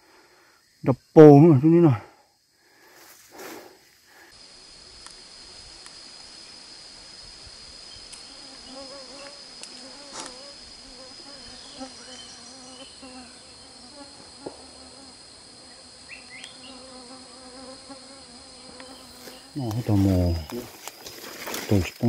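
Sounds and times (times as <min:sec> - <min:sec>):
flying insects humming: 0:00.0 - 0:22.0
high-pitched insect drone: 0:00.5 - 0:22.0.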